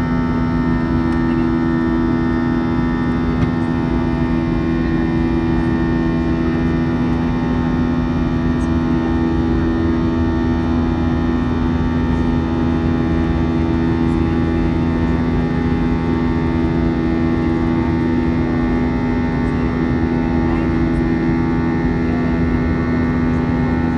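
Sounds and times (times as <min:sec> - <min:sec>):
jet engines droning in cabin: 0:00.0 - 0:23.9.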